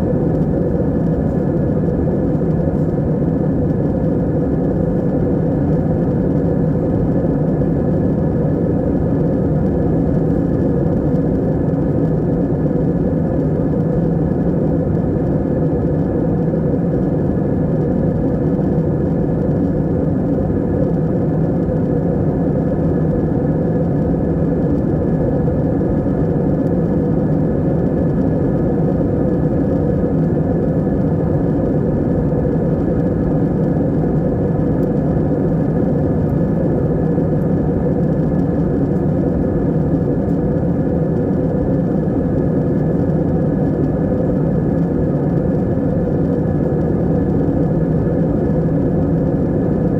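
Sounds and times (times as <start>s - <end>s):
airplane engines droning: 0.0s - 49.9s.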